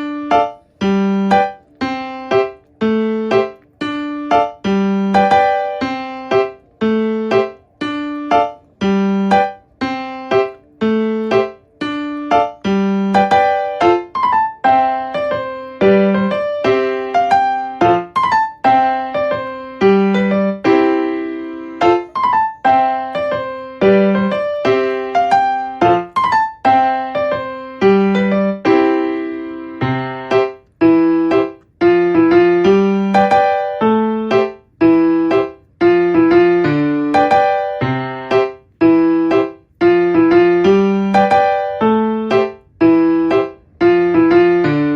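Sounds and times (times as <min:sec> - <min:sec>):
gentle piano melody: 0:00.0 - 0:44.9.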